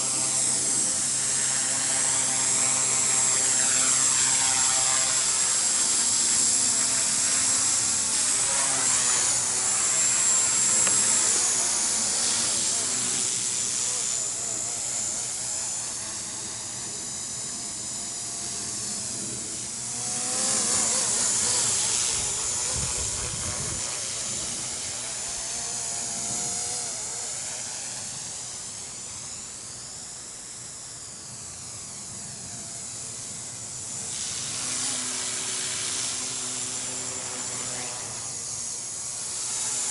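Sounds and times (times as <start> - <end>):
rc helicopter motor whine: 0.0 - 39.9
rotor hiss: 0.0 - 39.9.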